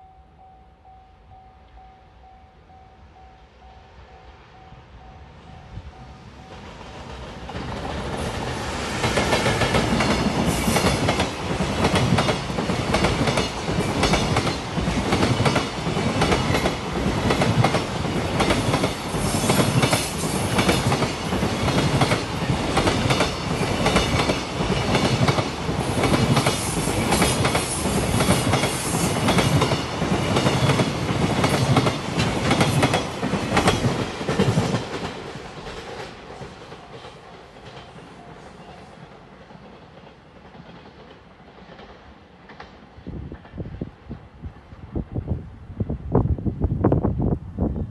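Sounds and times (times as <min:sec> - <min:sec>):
freight train passing: 0:00.0 - 0:47.9.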